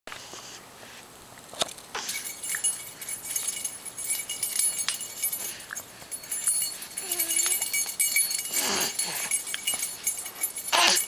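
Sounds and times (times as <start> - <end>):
keys jangling: 1.7 - 11.0.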